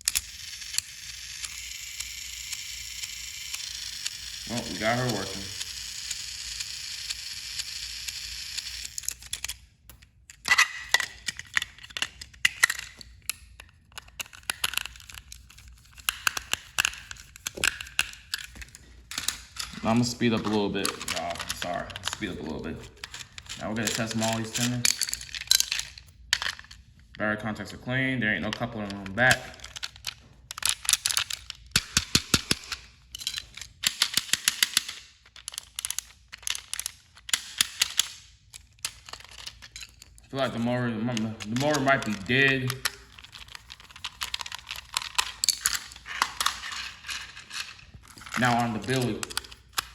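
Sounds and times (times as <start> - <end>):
plastic toy train clicking: 0.0 - 26.8, 28.4 - 49.9.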